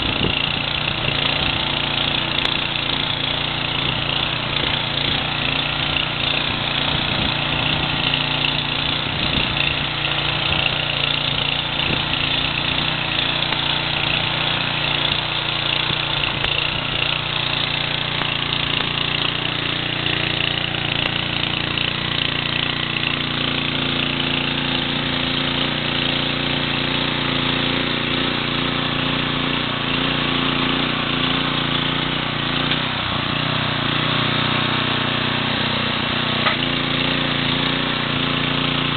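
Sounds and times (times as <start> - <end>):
garden tiller engine running: 0.0 - 38.9
tines churning through soil: 0.0 - 38.9.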